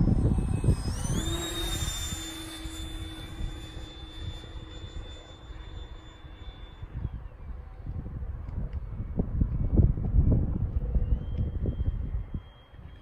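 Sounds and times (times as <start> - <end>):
model jet fan whine: 0.0 - 13.0.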